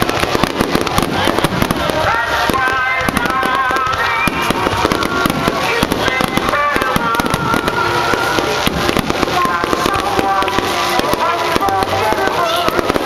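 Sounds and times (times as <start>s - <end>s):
fireworks bangs and crackles: 0.0s - 13.0s
melodic music: 1.4s - 13.0s.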